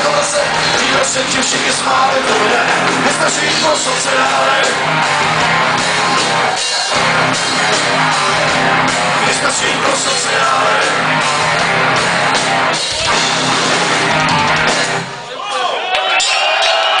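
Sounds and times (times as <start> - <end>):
heavy metal band playing: 0.0 - 17.0.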